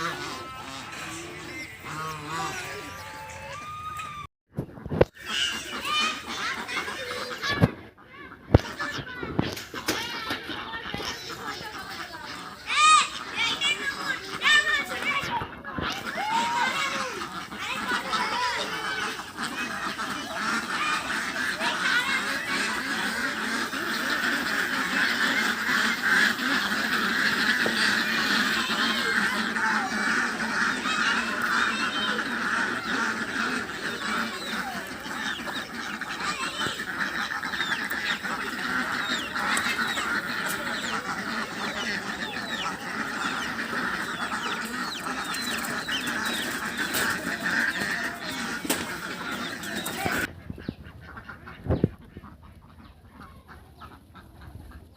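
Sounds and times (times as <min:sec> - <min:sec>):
geese honking: 0:00.0 - 0:04.3, 0:04.9 - 0:54.9.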